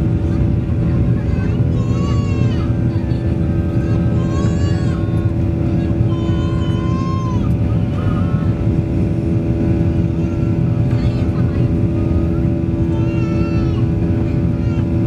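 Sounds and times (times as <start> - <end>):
jet engines rumbling in cabin: 0.0 - 15.0.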